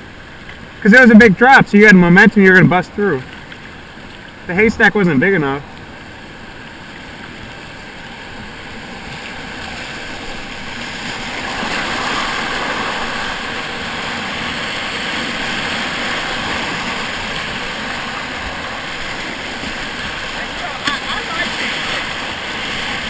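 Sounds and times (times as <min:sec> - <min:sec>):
whitewater rushing: 0:00.0 - 0:23.0.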